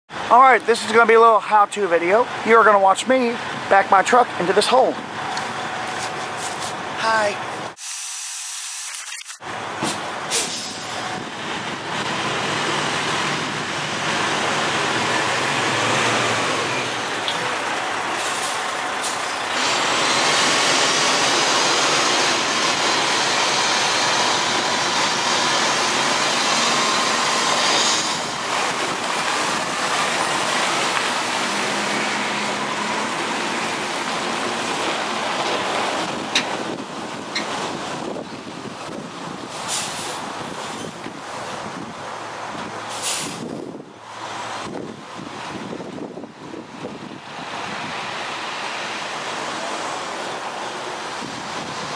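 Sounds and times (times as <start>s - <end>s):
diesel truck engine running: 9.4s - 51.9s.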